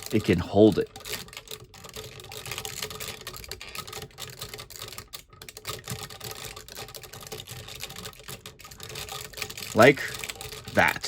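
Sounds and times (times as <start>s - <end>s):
plastic toy parts clicking: 0.0s - 11.0s.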